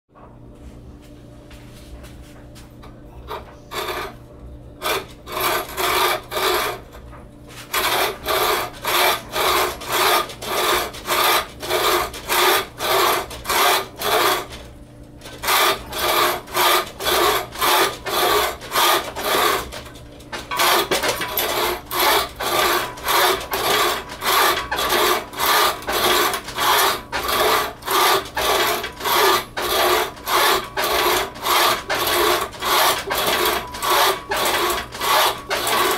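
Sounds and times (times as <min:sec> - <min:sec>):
saw rasping through branch: 0:03.3 - 0:04.2, 0:04.8 - 0:06.9, 0:07.5 - 0:14.7, 0:15.3 - 0:35.9.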